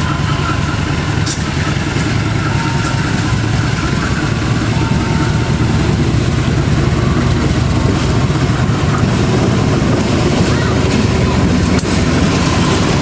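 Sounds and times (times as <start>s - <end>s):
locomotive engine droning: 0.0s - 13.0s.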